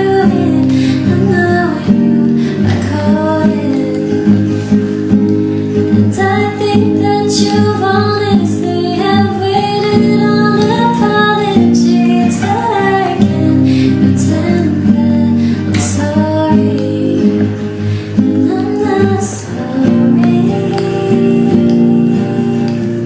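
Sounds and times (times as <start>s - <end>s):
acoustic guitar: 0.0s - 23.0s
woman singing: 0.0s - 23.0s.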